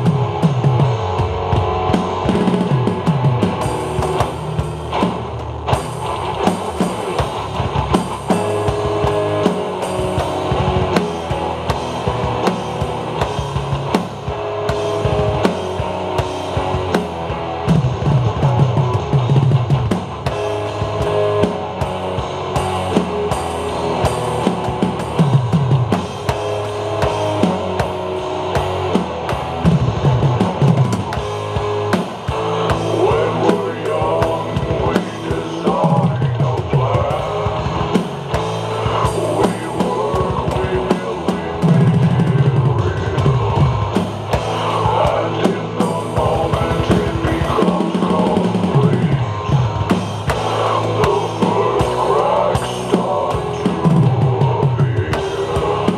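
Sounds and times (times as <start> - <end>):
drum kit playing: 0.0 - 55.9
recorded rock song: 0.0 - 55.9.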